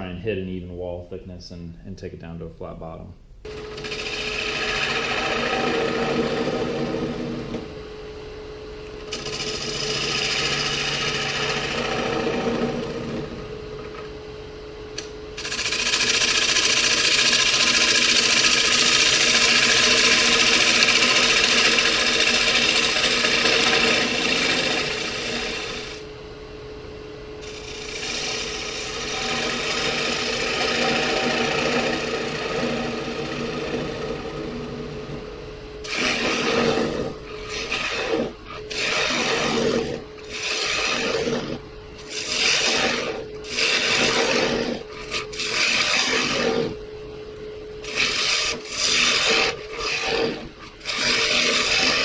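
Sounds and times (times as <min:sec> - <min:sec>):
turning tool cutting wood: 0:03.5 - 0:07.7, 0:08.9 - 0:13.5, 0:15.4 - 0:26.0, 0:27.4 - 0:35.2, 0:35.8 - 0:46.8, 0:47.8 - 0:52.0
lathe motor hum: 0:03.5 - 0:14.2, 0:15.0 - 0:26.1, 0:27.4 - 0:46.8, 0:47.8 - 0:52.0.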